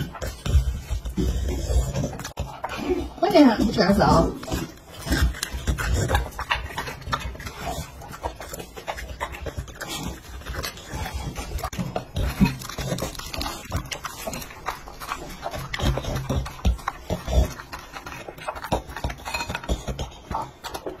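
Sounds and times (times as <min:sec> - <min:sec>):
dog chewing wet food: 0:00.0 - 0:21.0.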